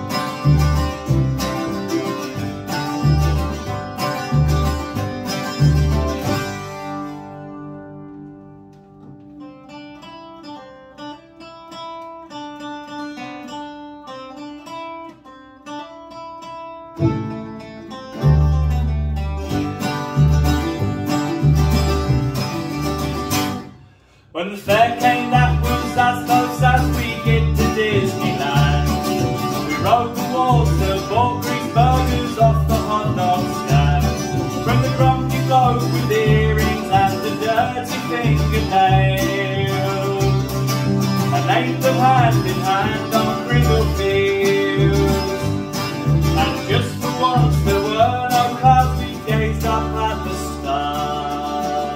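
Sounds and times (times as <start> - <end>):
plucked bass beat: 0.0 - 9.6, 17.0 - 23.6, 24.7 - 51.8
acoustic folk band playing: 0.0 - 51.9.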